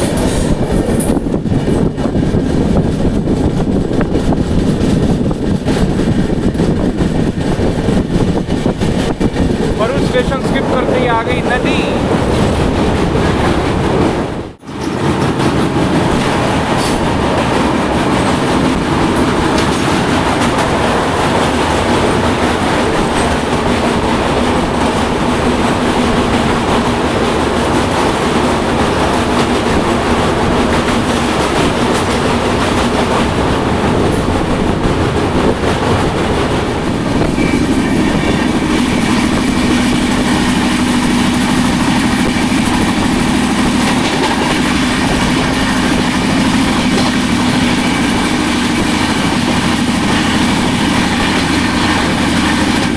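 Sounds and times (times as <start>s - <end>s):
train wheels clickety-clack: 0.0s - 52.9s.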